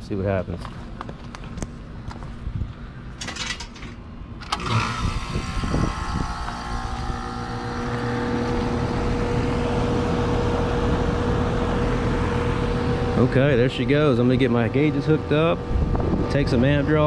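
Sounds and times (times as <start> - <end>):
compressor humming: 1.2 - 17.0
fan spinning: 2.5 - 17.0.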